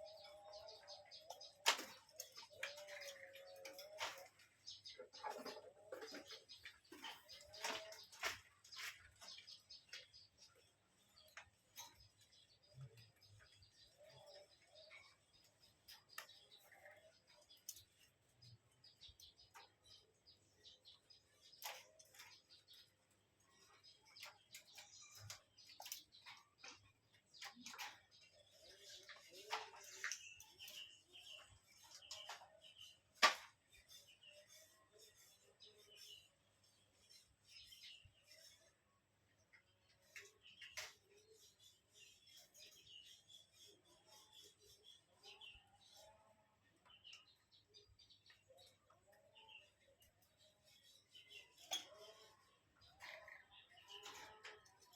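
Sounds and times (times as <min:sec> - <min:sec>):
quiet bird chirps: 0:00.0 - 0:54.9.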